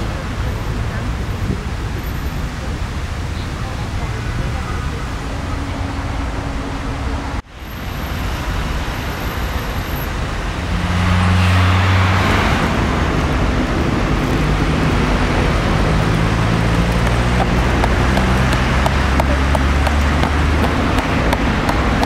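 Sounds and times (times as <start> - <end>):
road traffic rumble: 0.0 - 22.0
vehicle passing close: 3.7 - 22.0.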